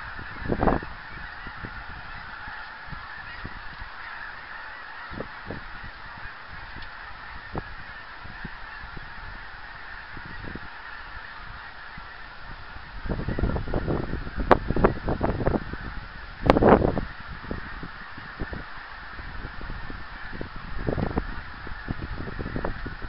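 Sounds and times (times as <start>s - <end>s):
flock of geese honking: 0.0s - 23.0s.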